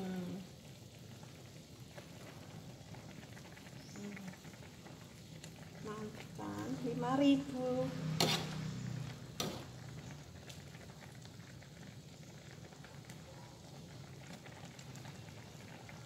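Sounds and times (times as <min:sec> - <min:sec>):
soup simmering: 0:00.0 - 0:16.0.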